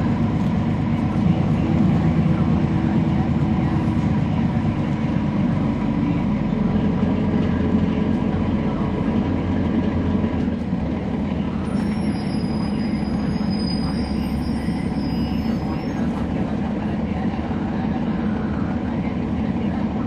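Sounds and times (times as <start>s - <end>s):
bus diesel engine rumble: 0.0s - 20.0s.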